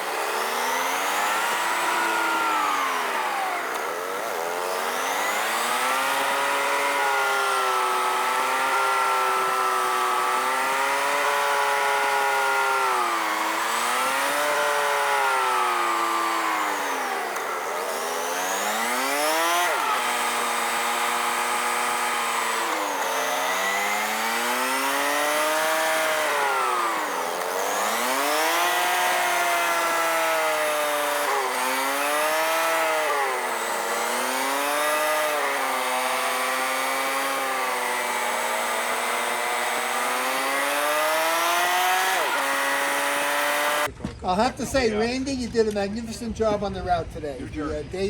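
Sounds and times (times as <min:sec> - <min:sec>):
motorcycle engine: 0:00.0 - 0:44.2.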